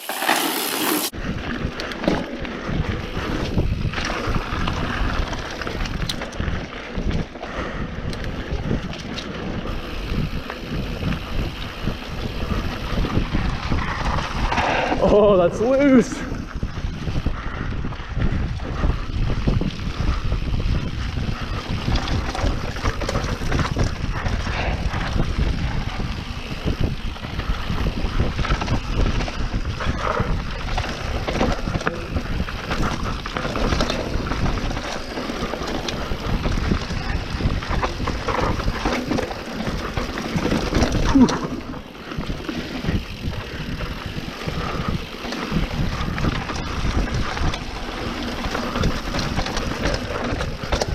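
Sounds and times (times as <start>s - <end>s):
bike rattling over rough trail: 0.0s - 50.9s
wind buffeting microphone: 1.1s - 50.9s.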